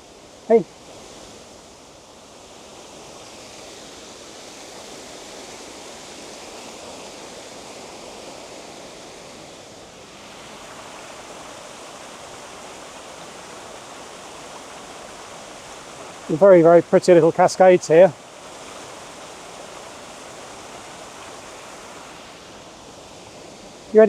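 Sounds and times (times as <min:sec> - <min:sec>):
water tumbling over cascades: 0:00.1 - 0:24.0.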